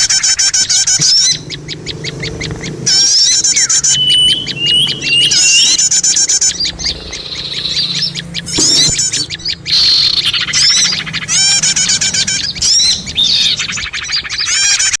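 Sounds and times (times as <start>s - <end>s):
small songbirds chirping and trilling: 0.0s - 15.0s.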